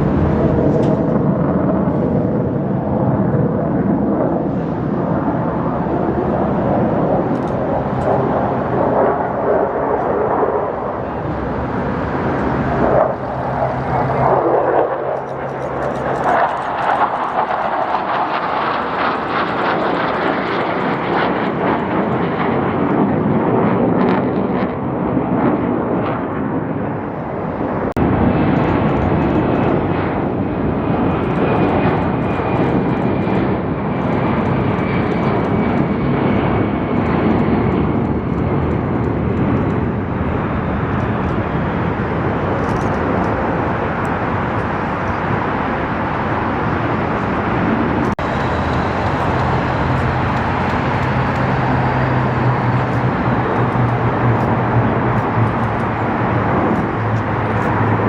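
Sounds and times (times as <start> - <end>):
airplane engine roar: 0.0 - 58.0.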